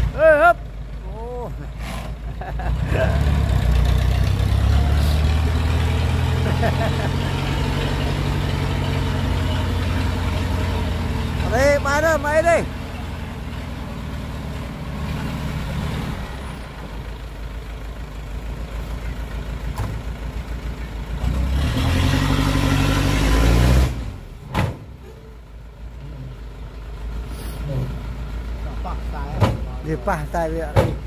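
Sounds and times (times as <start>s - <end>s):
diesel engine running and revving: 0.0s - 31.0s.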